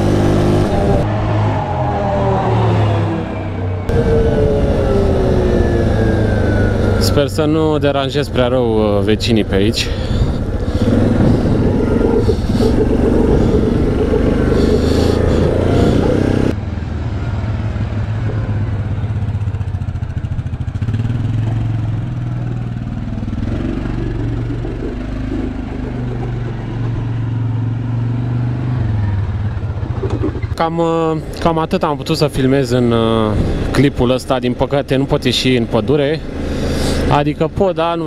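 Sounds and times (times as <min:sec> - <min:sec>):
atv engine running: 0:03.8 - 0:38.0.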